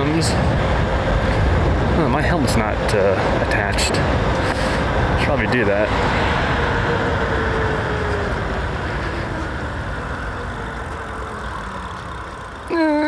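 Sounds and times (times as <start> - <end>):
wind and road noise from bike: 0.0 - 13.0.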